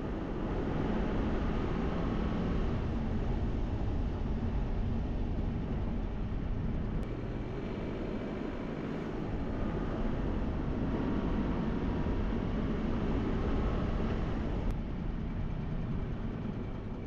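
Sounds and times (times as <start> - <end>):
road noise: 0.0 - 15.2
vehicle engine rumble: 0.0 - 17.0.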